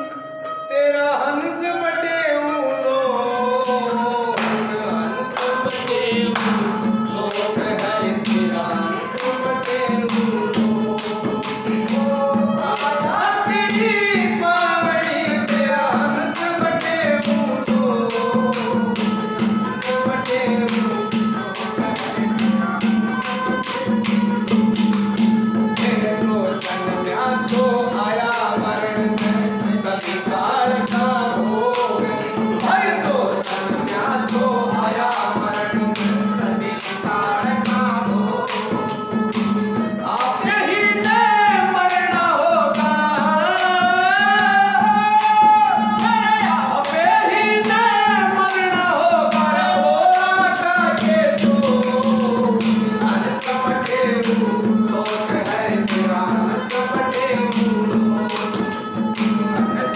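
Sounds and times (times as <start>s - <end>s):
harmonium melody: 0.0s - 59.9s
man singing: 0.0s - 59.9s
hand-drum strokes: 3.2s - 59.9s.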